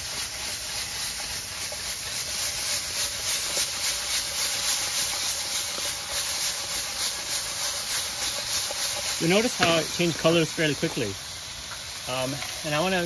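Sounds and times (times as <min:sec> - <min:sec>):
sauce hissing in a pan: 0:00.0 - 0:13.0
squash sizzling in a hot wok: 0:00.0 - 0:13.0.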